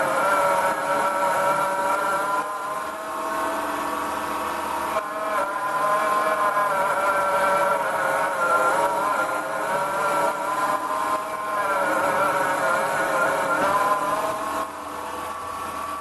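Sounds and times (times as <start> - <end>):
drill whining into metal: 0.0 - 16.0.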